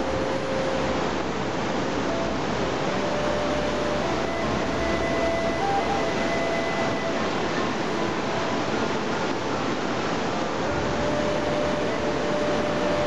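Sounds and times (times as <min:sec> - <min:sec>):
river rushing through rapids: 0:00.0 - 0:13.0.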